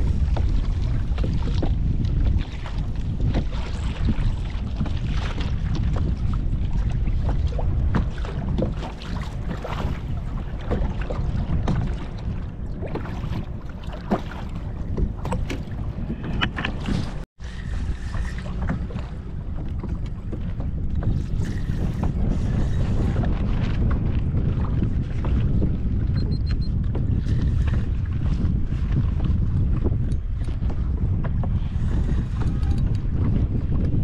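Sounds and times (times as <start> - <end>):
water lapping at a kayak: 0.0 - 34.0
wind buffeting microphone: 0.0 - 34.0.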